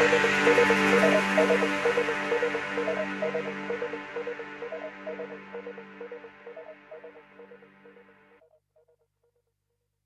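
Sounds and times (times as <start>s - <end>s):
electronic background music: 0.0s - 8.3s.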